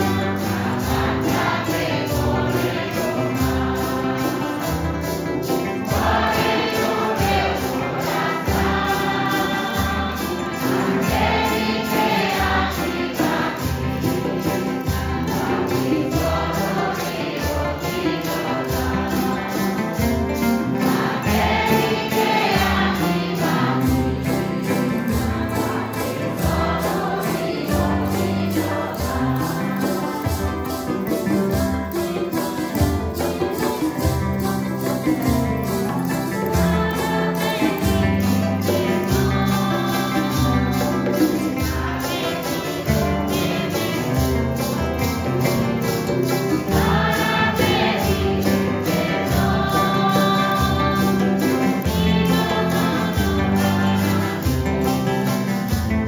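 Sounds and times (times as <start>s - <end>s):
acoustic guitar: 0.0s - 56.0s
choir singing a hymn: 0.0s - 56.0s
metal maracas shaking: 0.0s - 56.0s.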